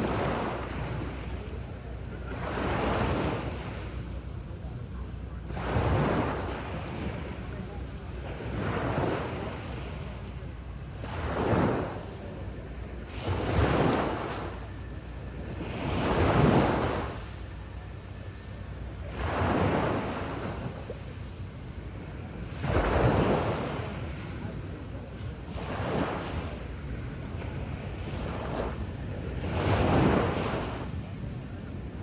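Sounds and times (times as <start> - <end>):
waves breaking on a beach: 0.0 - 32.0.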